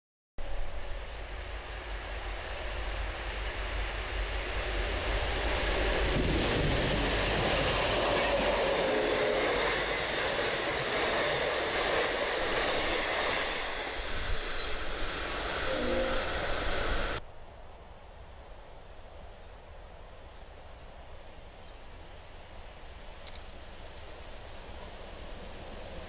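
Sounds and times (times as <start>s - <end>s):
diesel locomotive passing: 0.4s - 17.2s, 21.7s - 26.0s.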